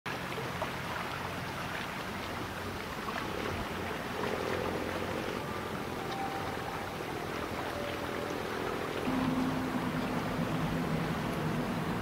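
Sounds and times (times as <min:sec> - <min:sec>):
boat engine humming: 0:00.1 - 0:12.0
water wash: 0:00.1 - 0:12.0.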